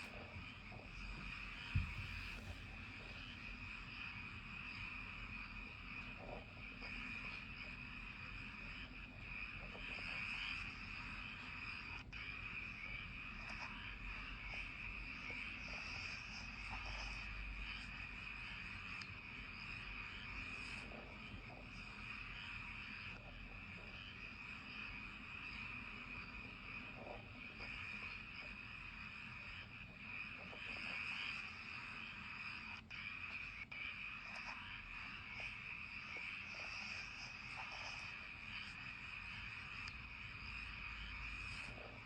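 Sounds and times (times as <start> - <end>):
frogs and insects trilling: 0.0 - 42.0.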